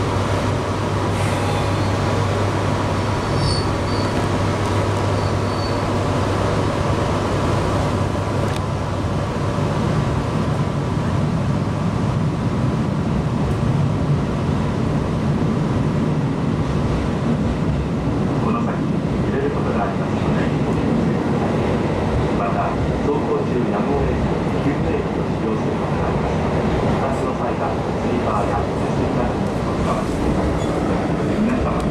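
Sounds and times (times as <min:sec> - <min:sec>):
train running noise: 0:00.0 - 0:31.9.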